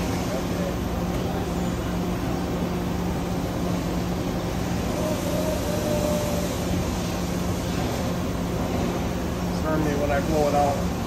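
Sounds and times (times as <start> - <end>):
machining center humming: 0.0 - 11.0.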